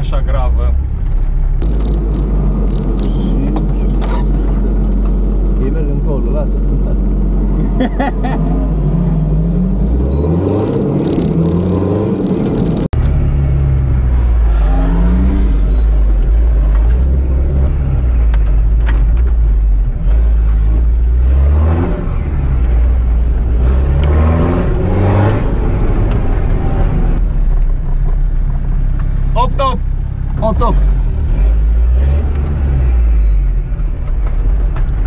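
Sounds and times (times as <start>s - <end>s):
engine accelerating and shifting gears: 0.8s - 29.3s, 30.2s - 35.0s.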